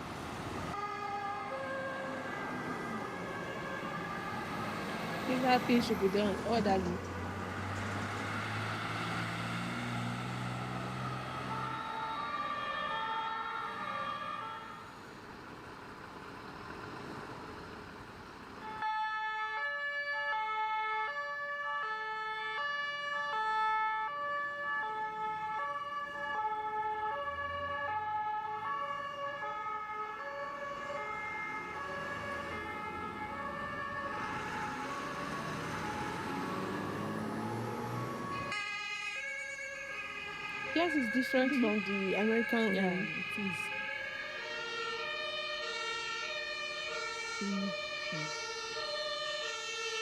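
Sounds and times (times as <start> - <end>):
two-tone siren: 0.7 - 15.0, 18.6 - 50.0.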